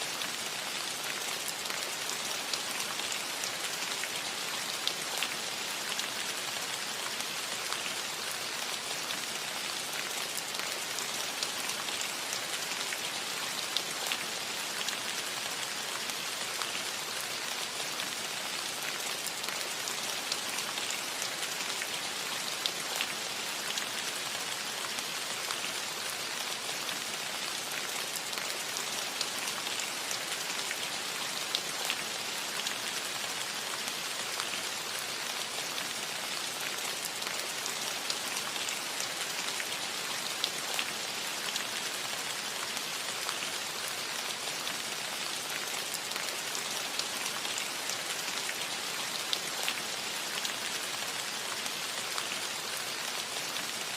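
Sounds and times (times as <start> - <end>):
rain on a metal roof: 0.0 - 53.9.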